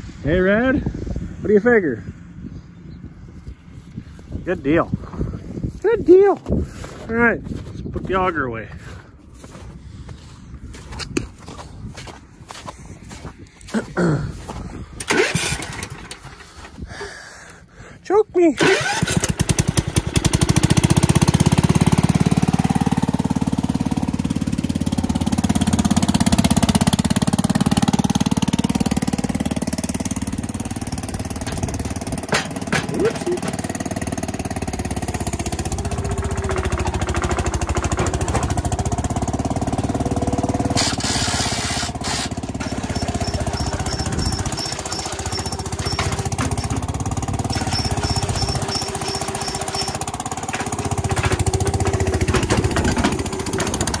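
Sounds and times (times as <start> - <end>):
gas engine running: 6.5 - 17.9, 18.6 - 54.0.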